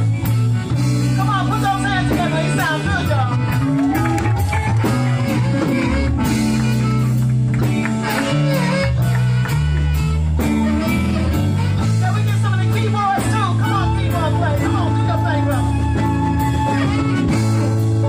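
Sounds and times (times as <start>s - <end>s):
electric guitar bending notes: 0.0s - 18.0s
steady drum beat: 0.0s - 18.0s
walking bass line: 0.0s - 18.0s.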